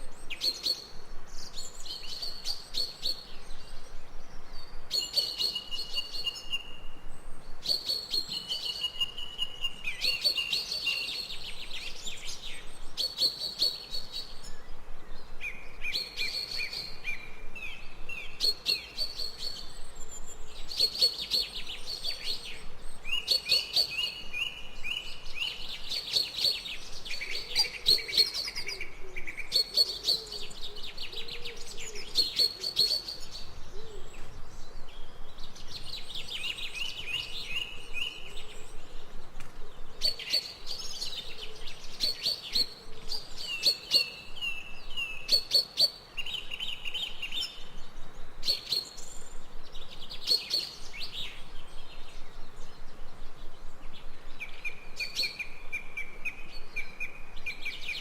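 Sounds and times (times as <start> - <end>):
faint low bird calls: 0.0 - 58.0
songbirds singing trilled phrases: 0.0 - 58.0.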